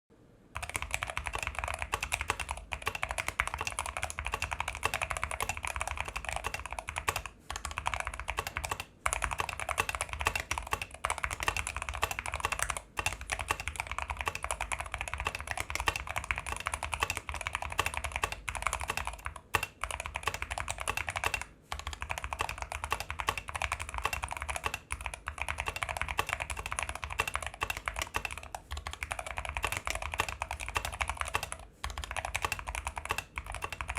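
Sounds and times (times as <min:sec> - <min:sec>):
fast mechanical keyboard typing: 0:00.6 - 0:33.9.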